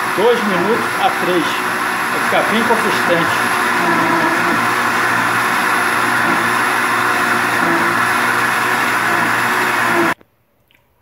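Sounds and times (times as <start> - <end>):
blender motor running: 0.0 - 10.2.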